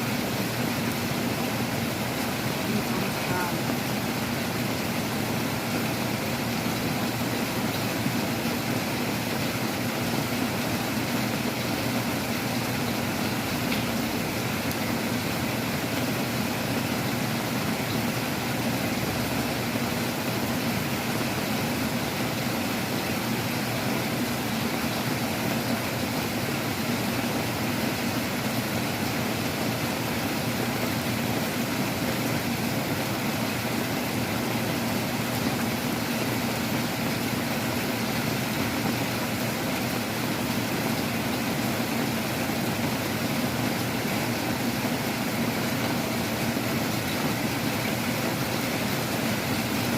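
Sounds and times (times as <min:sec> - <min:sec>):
heavy rain in strong wind: 0:00.0 - 0:49.9.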